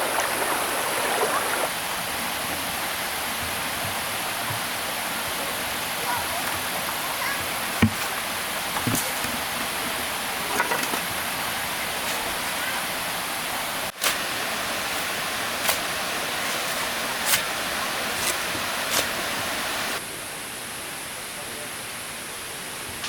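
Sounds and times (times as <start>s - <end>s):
stream water flowing: 0.0s - 20.6s.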